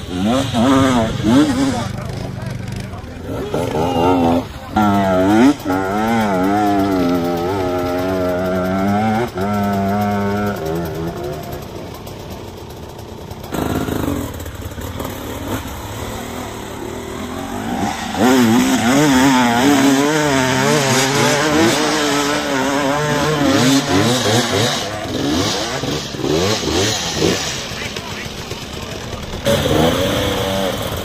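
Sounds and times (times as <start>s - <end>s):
off-road vehicle engines revving: 0.0s - 31.0s.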